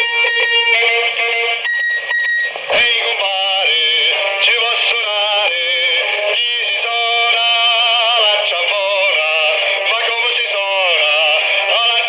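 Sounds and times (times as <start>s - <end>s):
song over radio: 0.0s - 12.0s.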